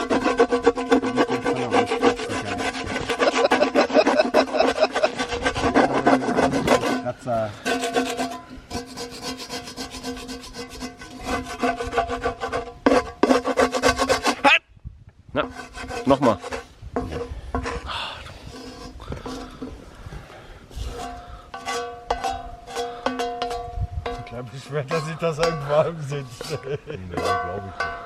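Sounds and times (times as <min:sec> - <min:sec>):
scraping burnt food from pan: 0:00.0 - 0:14.4, 0:15.4 - 0:19.8, 0:20.7 - 0:28.0.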